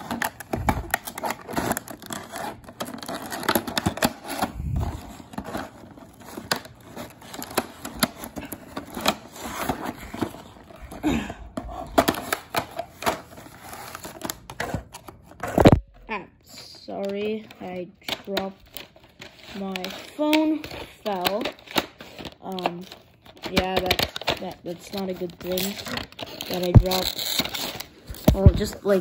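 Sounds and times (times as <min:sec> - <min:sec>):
packaging rustling and crinkling: 0:00.0 - 0:15.8, 0:16.8 - 0:29.0.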